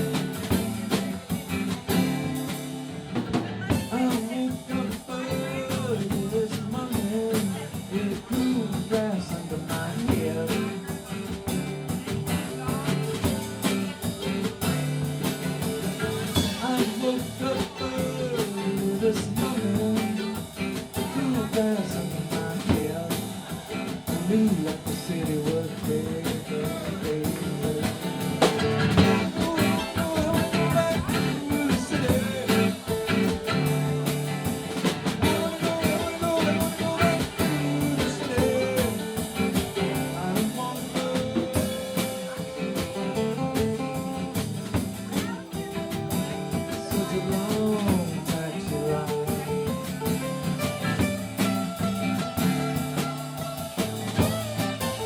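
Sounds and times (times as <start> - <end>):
backing instruments: 0.0 - 55.0
drum kit: 0.0 - 55.0
guitar lead with bending notes: 0.0 - 55.0.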